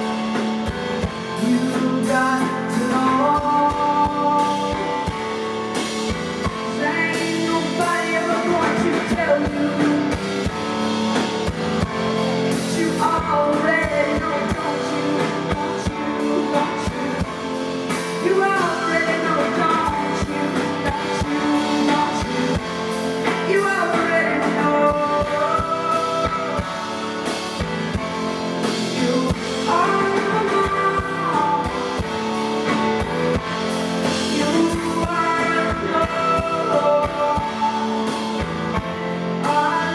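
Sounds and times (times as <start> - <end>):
drum kit: 0.0 - 39.9
keyboards: 0.0 - 39.9
woman singing: 1.0 - 5.4, 6.4 - 10.9, 11.8 - 27.3, 27.9 - 39.9.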